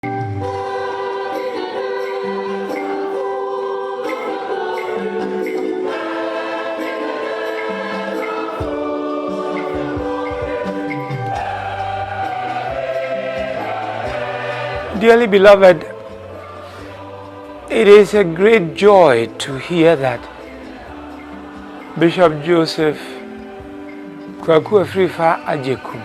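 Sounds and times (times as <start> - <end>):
choir singing held notes: 0.0 - 26.0.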